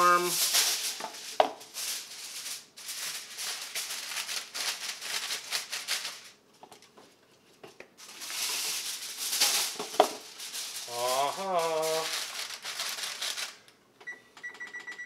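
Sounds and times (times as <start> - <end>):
aluminium foil crinkling: 0.0 - 7.2, 8.0 - 13.8.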